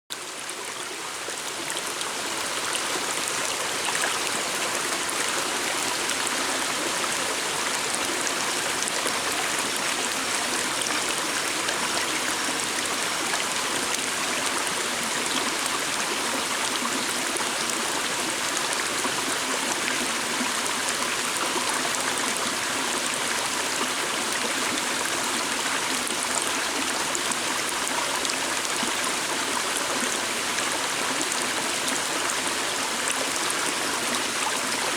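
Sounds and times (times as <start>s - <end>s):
stream rushing and babbling: 0.1s - 34.9s.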